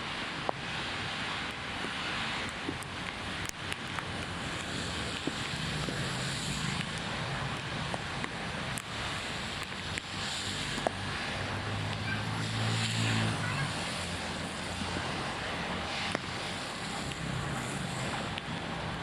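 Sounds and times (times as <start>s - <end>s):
heavy rain and floodwater: 0.0s - 19.0s.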